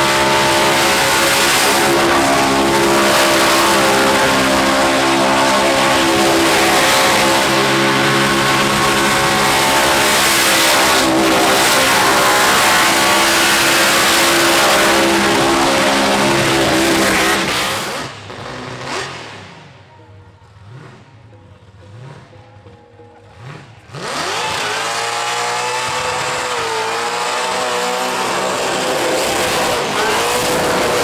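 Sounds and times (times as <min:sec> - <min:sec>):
car engine revving high: 0:00.0 - 0:19.9, 0:23.2 - 0:31.0.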